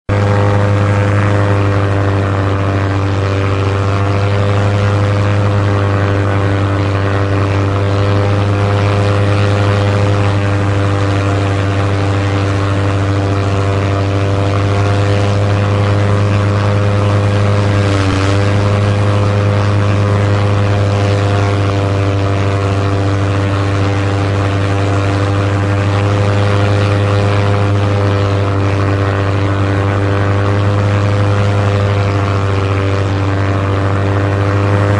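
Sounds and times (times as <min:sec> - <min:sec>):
propeller plane engine droning: 0:00.0 - 0:34.9.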